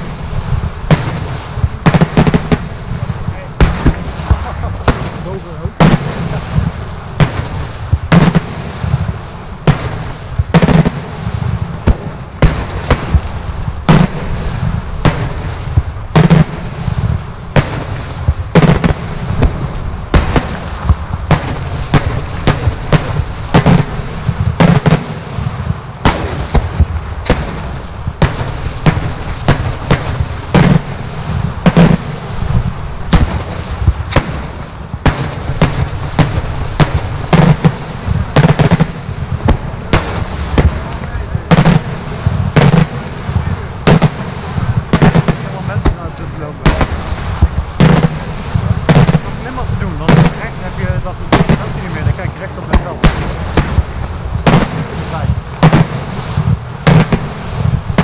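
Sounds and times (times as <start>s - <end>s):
continuous low rumble: 0.0s - 58.0s
fireworks bangs: 0.0s - 58.0s.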